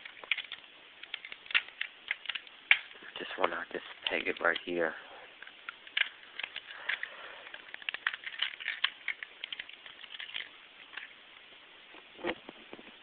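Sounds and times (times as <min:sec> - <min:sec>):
plastic parts clicking and rattling: 0:00.0 - 0:11.1.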